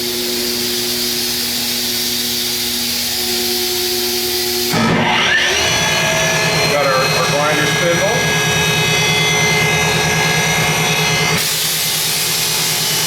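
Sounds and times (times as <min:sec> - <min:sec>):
machine hiss and hum: 0:00.0 - 0:13.0
motor whine rising in pitch: 0:00.0 - 0:13.0.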